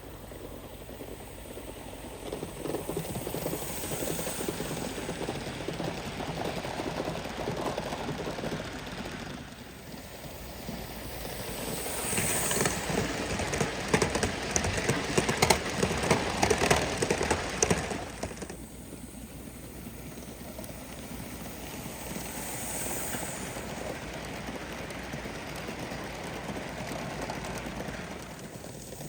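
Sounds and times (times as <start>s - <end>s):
model train running on track: 0.0s - 29.0s
train wheels clicking: 0.0s - 29.0s.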